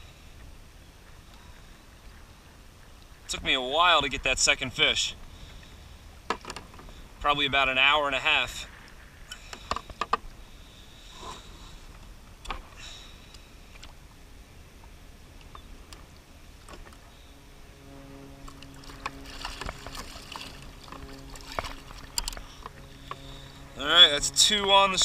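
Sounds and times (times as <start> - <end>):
steady low hum: 0.0 - 25.0
water lapping at kayak hull: 0.1 - 25.0.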